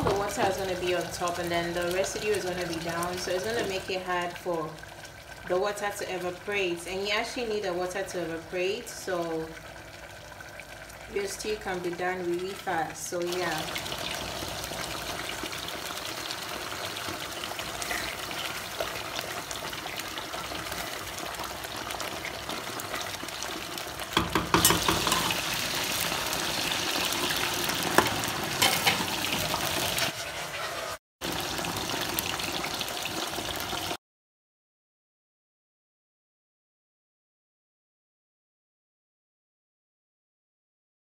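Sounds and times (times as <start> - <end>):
chips deep-frying in hot oil: 0.0 - 34.0
stew simmering and bubbling: 0.0 - 34.0.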